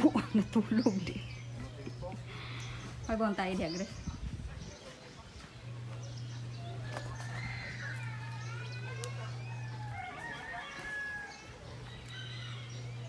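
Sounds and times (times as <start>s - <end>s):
chickens calling: 0.0s - 13.0s
steady low hum: 0.0s - 13.0s.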